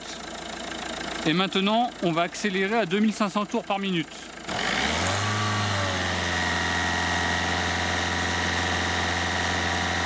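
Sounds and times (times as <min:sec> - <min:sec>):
car engine held at steady revs: 0:00.0 - 0:10.0.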